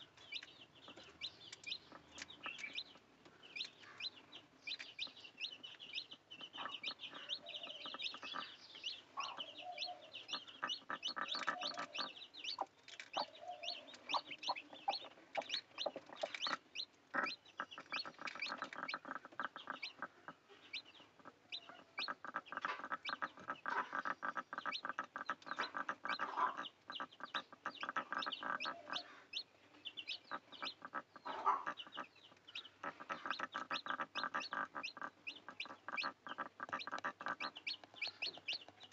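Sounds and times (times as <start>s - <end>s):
chickens clucking: 0.0s - 38.9s
chicks cheeping: 0.0s - 38.9s.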